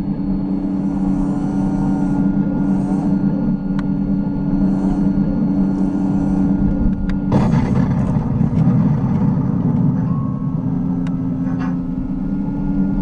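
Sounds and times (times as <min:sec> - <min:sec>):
simulated tank engine rumble: 0:00.0 - 0:13.0.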